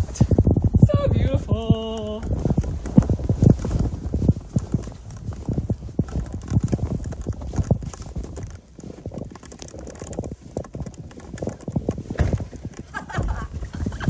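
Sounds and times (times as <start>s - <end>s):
footsteps in snow: 1.6s - 14.0s.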